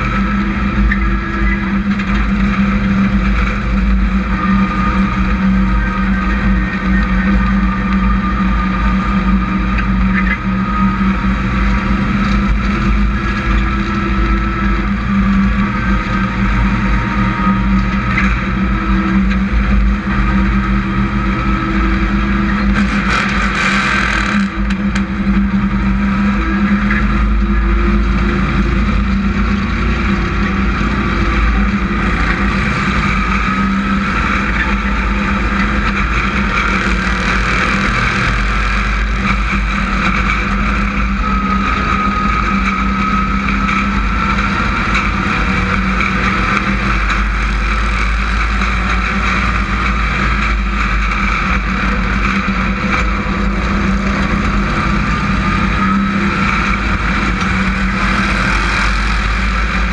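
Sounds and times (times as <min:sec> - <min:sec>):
race truck engine running: 0:00.0 - 0:59.9.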